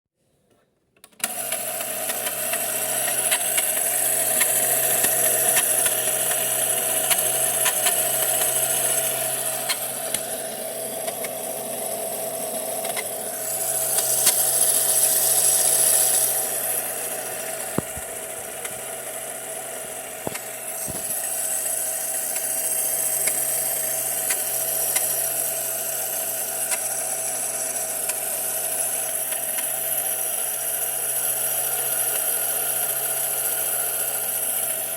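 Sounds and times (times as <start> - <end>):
toy machine whirring and humming: 1.2 - 34.9.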